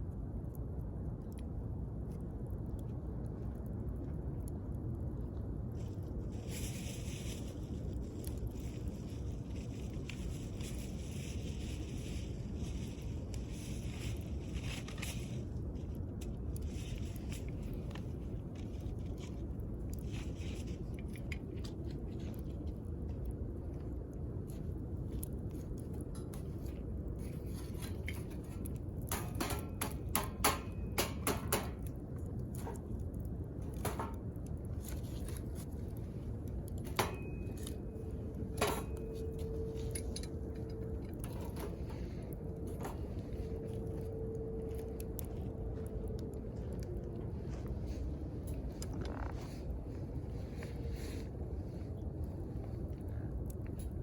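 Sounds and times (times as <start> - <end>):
campfire crackling and popping: 0.0 - 50.6.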